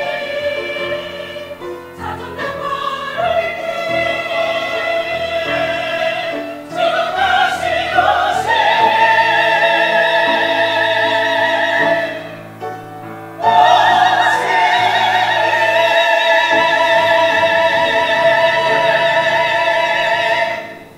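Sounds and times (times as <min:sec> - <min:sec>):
mixed choir singing: 0:00.0 - 0:20.9.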